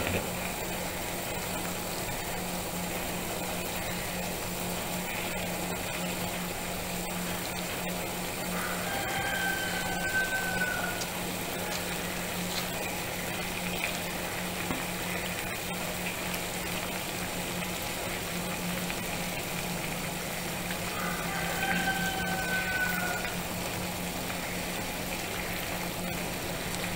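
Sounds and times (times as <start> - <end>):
water boiling in saucepan: 0.0 - 26.9.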